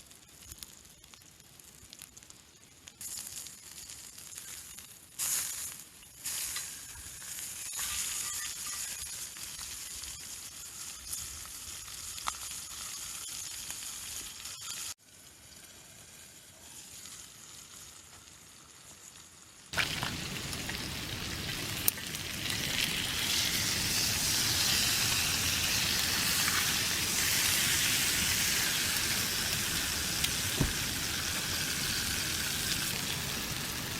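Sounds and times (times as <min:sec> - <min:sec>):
chicken sizzling on grill: 0:00.0 - 0:33.9
small crackles of fire: 0:00.0 - 0:33.9.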